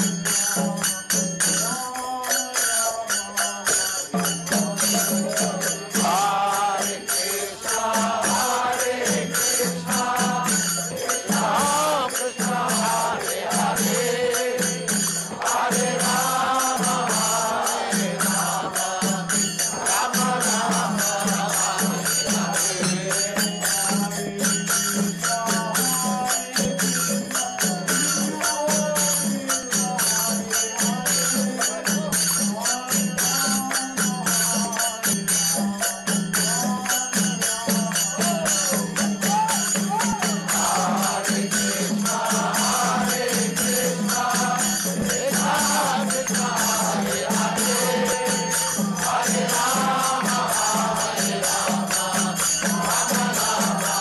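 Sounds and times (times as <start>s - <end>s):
hand cymbals clashing: 0.0s - 54.0s
voices chanting together: 0.0s - 54.0s
drum: 3.6s - 54.0s.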